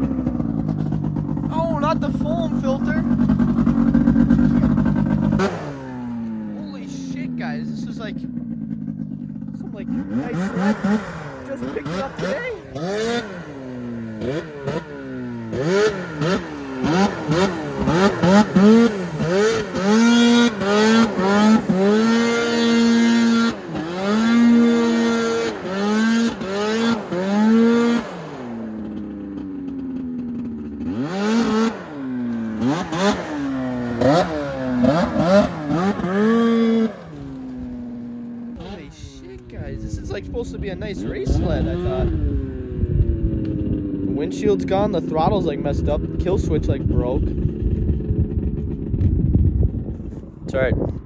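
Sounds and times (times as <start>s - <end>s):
snowmobile engine revving: 0.0s - 49.0s.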